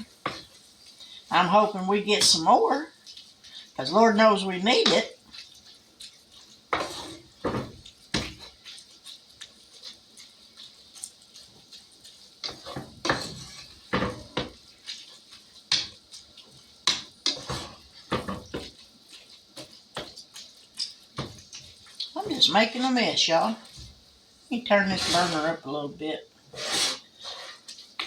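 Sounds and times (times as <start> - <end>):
utensil scraping frying pan: 0.0 - 28.0.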